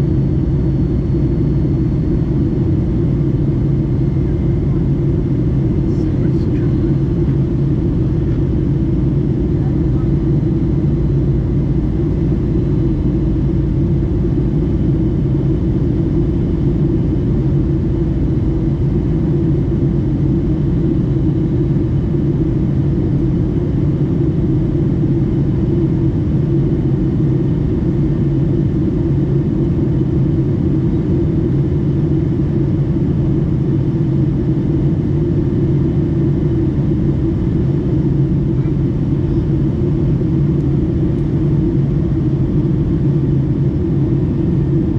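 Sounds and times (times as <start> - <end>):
jet engine drone: 0.0 - 44.9.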